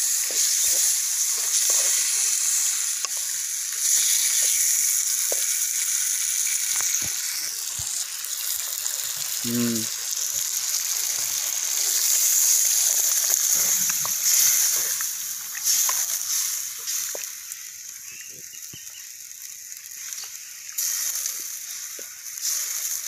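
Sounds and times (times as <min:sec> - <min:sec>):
curry sizzling and sloshing in pot: 0:00.0 - 0:23.0.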